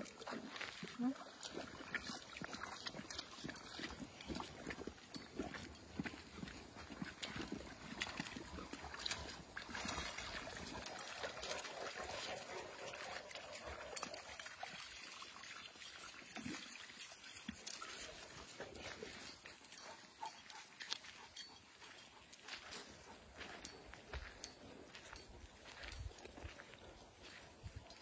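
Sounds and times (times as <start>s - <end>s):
dogs splashing through puddle: 0.0s - 28.0s
paw steps: 0.3s - 15.0s, 17.4s - 28.0s.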